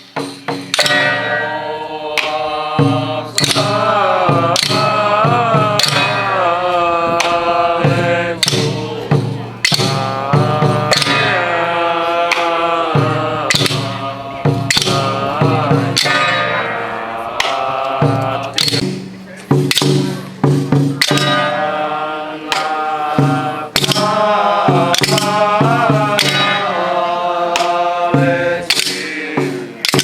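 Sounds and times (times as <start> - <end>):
sharp percussion strikes: 0.0 - 30.0
wavering melody: 0.7 - 30.0.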